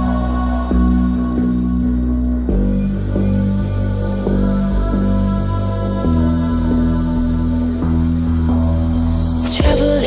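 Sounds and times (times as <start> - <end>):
sustained chords over steady bass: 0.0 - 10.0.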